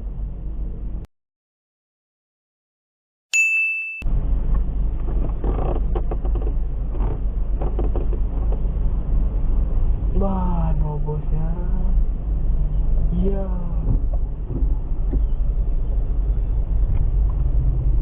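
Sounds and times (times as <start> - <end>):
vehicle cabin and road rumble: 0.0 - 1.1, 4.1 - 18.0.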